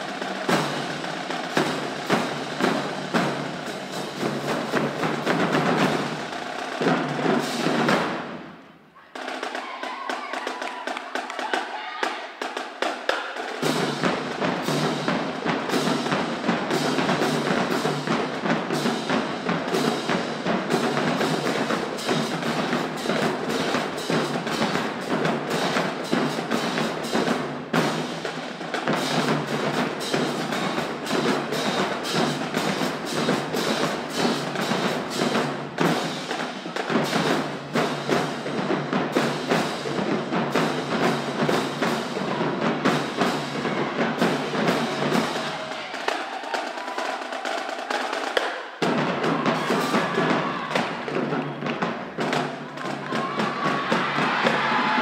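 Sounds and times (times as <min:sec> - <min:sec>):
drums and percussion: 0:00.0 - 0:55.0
marching band playing: 0:00.0 - 0:55.0.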